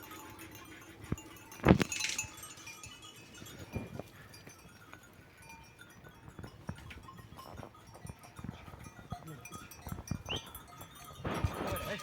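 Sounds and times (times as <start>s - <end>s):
livestock bells tinkling: 0.0s - 12.0s.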